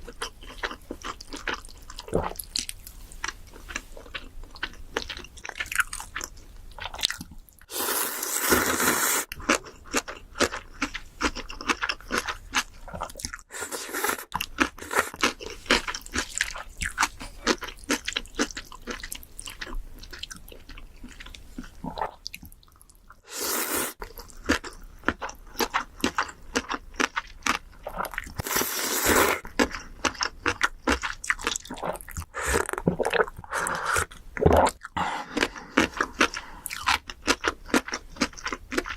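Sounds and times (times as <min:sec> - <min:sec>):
crunching and chewing food: 0:00.0 - 0:23.2, 0:23.9 - 0:38.9.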